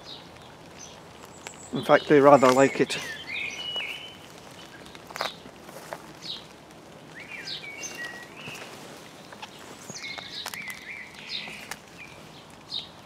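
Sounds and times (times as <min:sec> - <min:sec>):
blackbird singing: 0:00.0 - 0:05.4, 0:06.2 - 0:06.5, 0:07.1 - 0:13.0.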